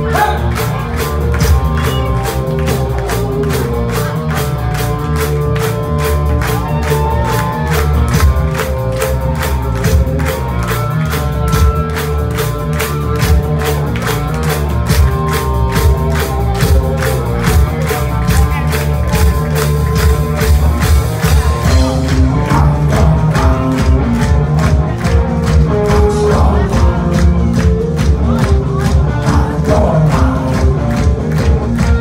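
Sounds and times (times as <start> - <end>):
drums fast steady beat: 0.0 - 32.0
live rock band playing: 0.0 - 32.0.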